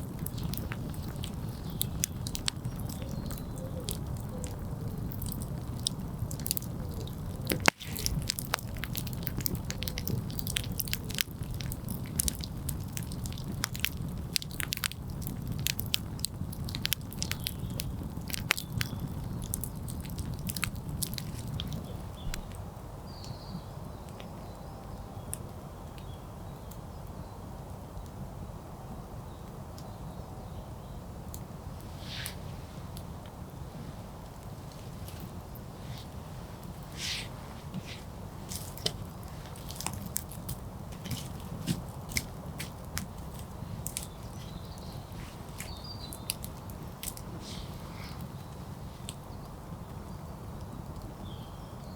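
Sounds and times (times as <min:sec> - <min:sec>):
campfire crackling and popping: 0:00.0 - 0:24.4, 0:31.2 - 0:51.9
low rumble of flames: 0:00.0 - 0:51.9.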